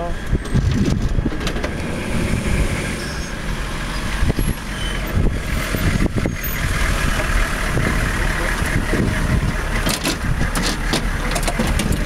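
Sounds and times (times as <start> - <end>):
diesel truck engines running: 0.0 - 12.0.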